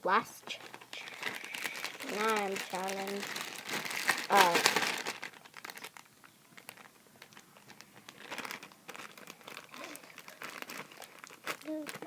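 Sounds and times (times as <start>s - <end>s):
faint crinkling: 0.2s - 12.0s.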